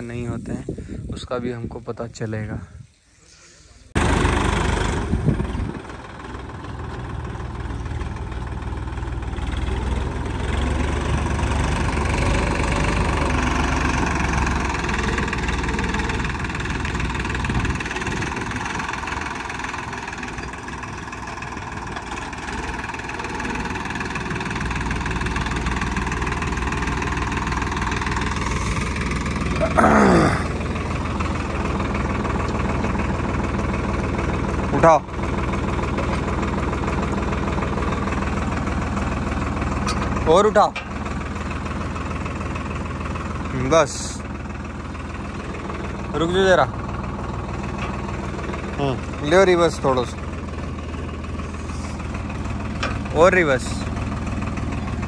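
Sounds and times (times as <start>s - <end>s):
diesel tractor engine running: 0.0s - 2.9s, 3.6s - 55.0s.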